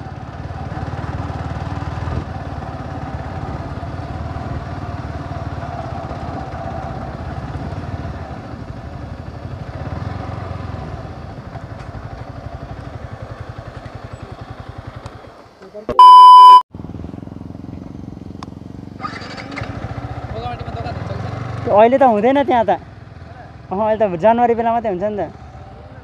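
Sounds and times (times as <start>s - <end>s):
motorcycle engine at low revs: 0.0s - 15.6s, 16.8s - 22.0s.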